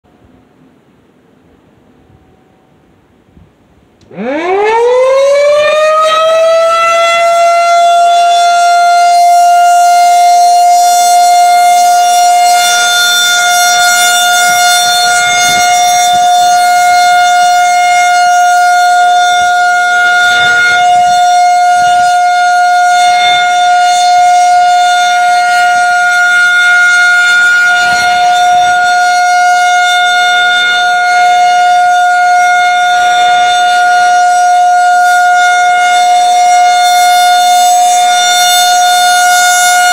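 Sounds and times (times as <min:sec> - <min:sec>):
rotating warning siren: 0:03.8 - 0:39.9.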